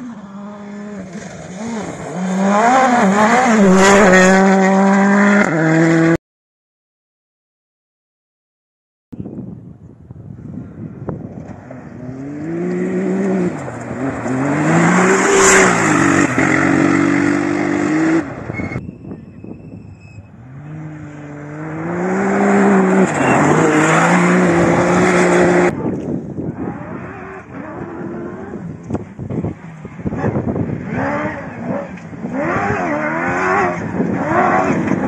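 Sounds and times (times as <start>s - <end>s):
rally car engine revving: 0.0s - 6.2s, 11.4s - 18.8s, 20.3s - 35.0s.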